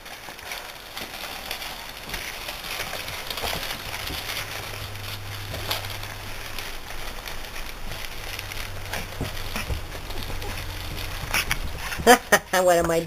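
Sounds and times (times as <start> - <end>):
bedspread rustling and crackling: 0.0 - 13.0.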